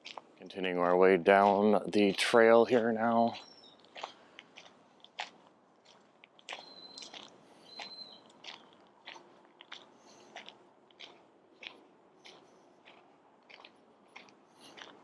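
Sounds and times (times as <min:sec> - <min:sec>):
footsteps crunching on a trail: 0:00.0 - 0:15.0.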